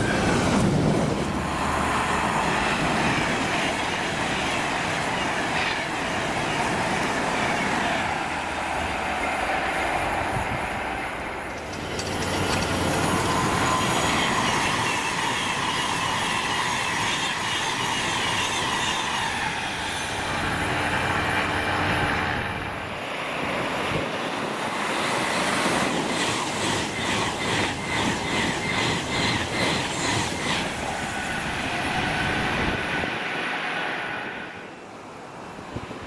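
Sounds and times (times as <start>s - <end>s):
express trains rushing past: 0.0s - 36.0s
wheel-on-rail noise: 0.0s - 36.0s.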